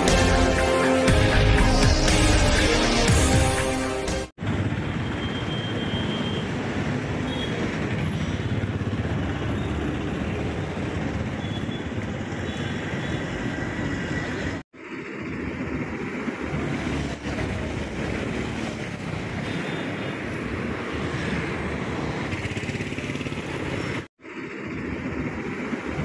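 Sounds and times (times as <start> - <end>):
passing traffic rumble: 4.4 - 26.0.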